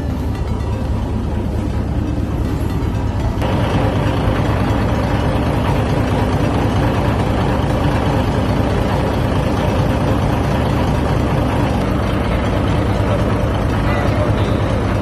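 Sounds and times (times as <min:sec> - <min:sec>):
ferry engine idling hum: 0:00.0 - 0:15.0.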